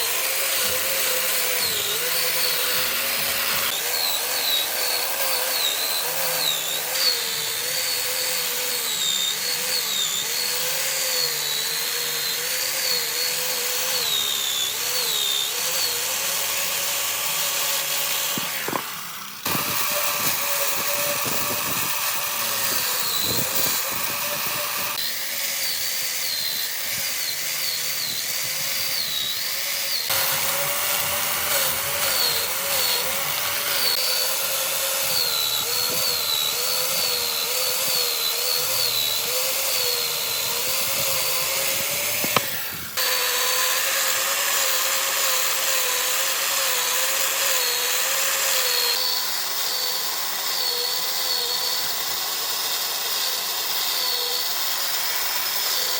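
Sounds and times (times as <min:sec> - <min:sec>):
power tool motor whine on wood: 0:00.0 - 0:55.9.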